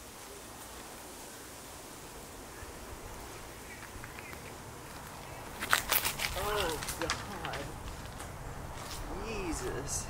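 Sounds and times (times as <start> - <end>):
steady airy hiss: 0.0 - 10.0.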